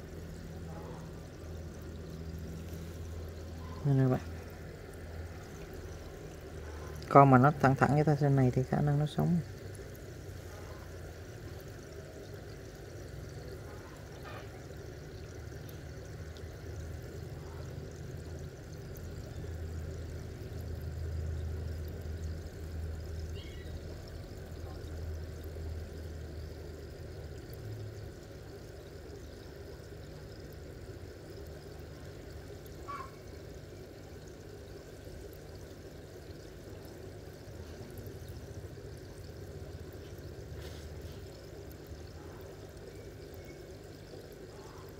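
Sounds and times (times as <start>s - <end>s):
low steady hum: 0.0s - 44.9s
water trickling: 0.0s - 44.9s.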